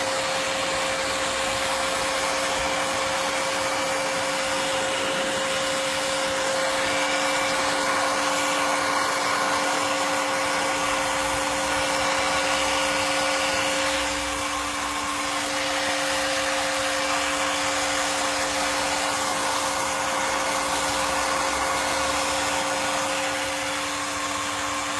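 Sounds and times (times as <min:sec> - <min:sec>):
fan motor humming: 0:00.0 - 0:24.9
heat gun blowing air: 0:00.0 - 0:24.9.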